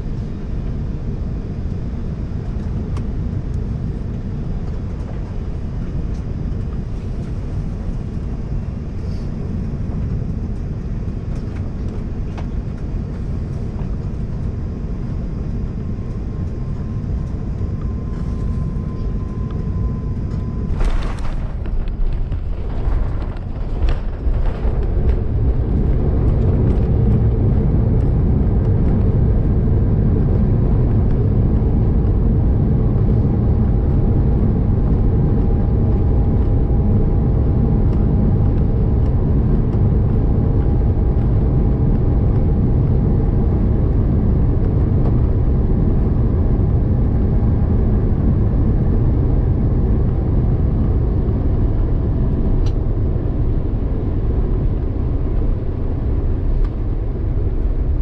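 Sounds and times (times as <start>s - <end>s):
airplane cabin rumble: 0.0s - 58.0s
faint steady whine: 0.0s - 58.0s.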